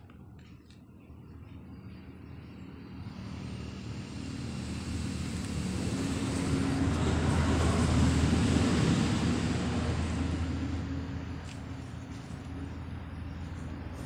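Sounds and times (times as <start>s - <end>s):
passing engine rumble: 1.5s - 14.0s.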